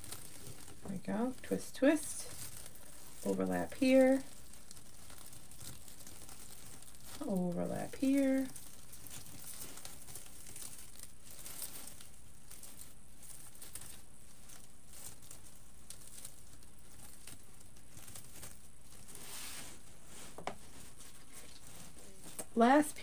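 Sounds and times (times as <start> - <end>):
metallic mesh crinkling: 0.0 - 23.0.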